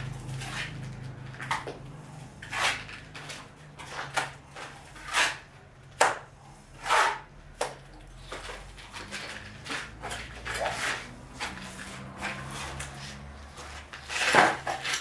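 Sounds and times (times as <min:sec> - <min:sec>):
trowel scraping masonry: 0:00.0 - 0:15.0.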